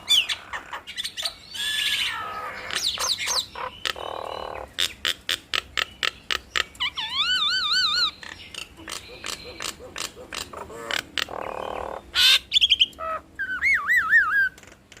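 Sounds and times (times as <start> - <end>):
mynas calling: 0.0 - 14.8.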